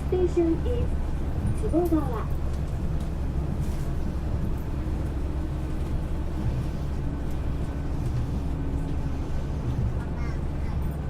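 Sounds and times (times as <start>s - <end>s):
monorail low rumble: 0.0s - 11.0s.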